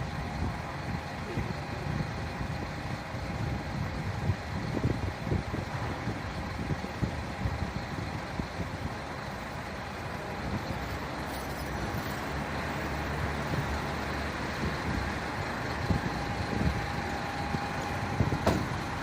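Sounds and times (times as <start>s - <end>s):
road traffic rumble: 0.0s - 19.0s
vehicle engine running: 0.0s - 19.0s.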